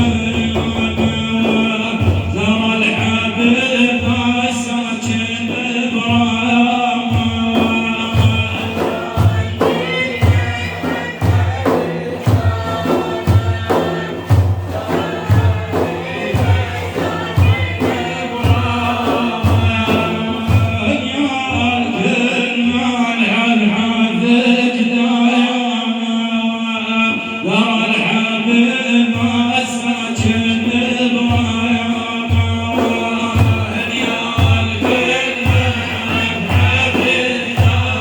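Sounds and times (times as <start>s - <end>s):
hand drum beat: 0.0s - 24.6s, 28.8s - 38.0s
men singing in chorus: 0.0s - 38.0s.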